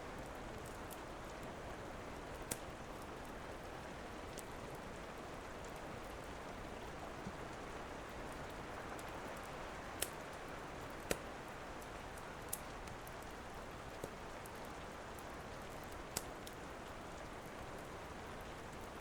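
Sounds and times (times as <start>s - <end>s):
steady rain: 0.0s - 19.0s
wood fire crackling: 0.1s - 19.0s.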